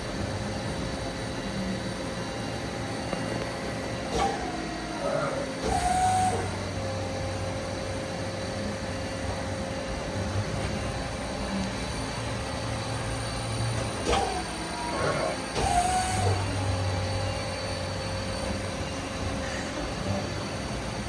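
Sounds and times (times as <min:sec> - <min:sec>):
lathe machine hum: 0:00.0 - 0:21.0.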